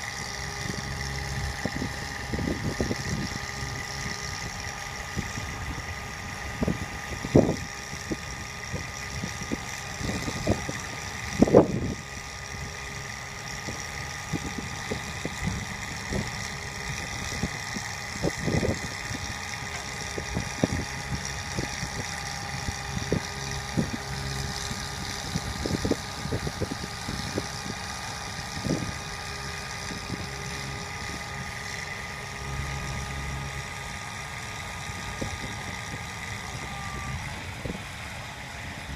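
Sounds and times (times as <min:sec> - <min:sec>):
steady whine: 0:00.0 - 0:38.9
truck engine idling: 0:00.0 - 0:38.9.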